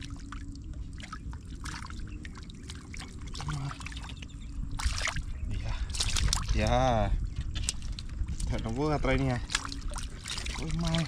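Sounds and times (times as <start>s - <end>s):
water splashes and drips: 0.0s - 11.0s
water trickling and pouring: 0.0s - 11.0s.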